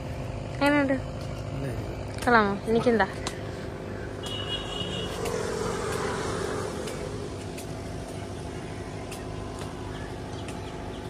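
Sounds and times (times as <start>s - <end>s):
steady engine hum: 0.0s - 11.0s
vehicle passing: 0.0s - 11.0s.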